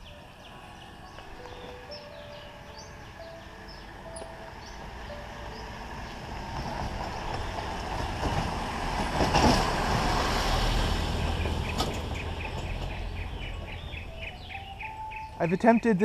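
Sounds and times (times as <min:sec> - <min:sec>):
vehicle engine rumbling past: 0:00.0 - 0:15.4
wind and road rush: 0:00.0 - 0:16.0.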